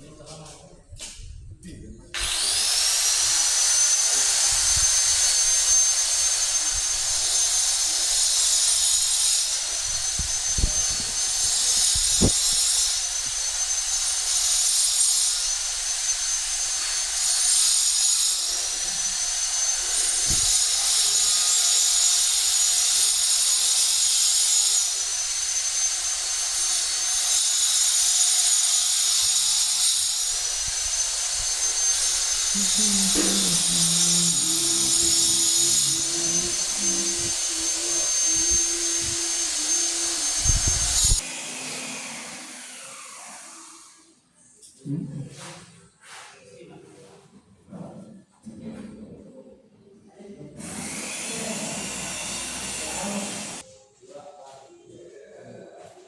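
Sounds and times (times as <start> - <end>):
angle grinder cutting glass: 2.2 - 44.1, 50.6 - 53.6.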